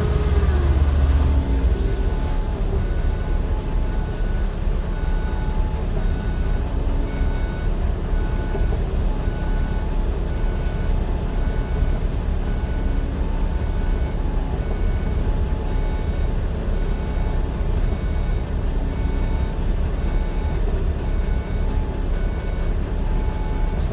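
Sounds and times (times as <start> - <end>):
vehicle rumble: 0.0 - 23.9.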